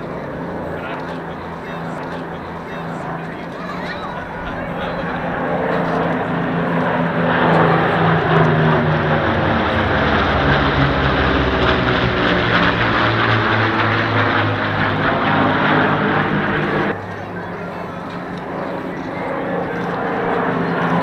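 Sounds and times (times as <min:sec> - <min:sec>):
propeller planes droning overhead: 0:00.0 - 0:21.0.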